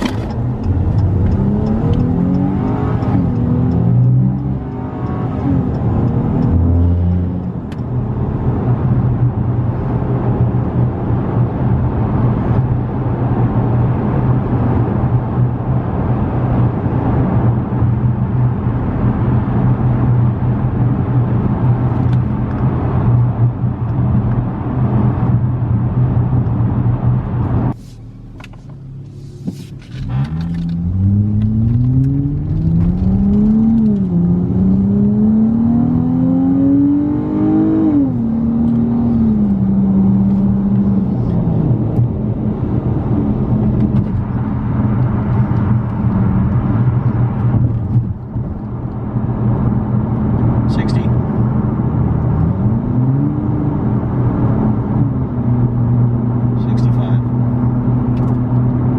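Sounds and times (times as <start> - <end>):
car engine drone: 0.0 - 58.9.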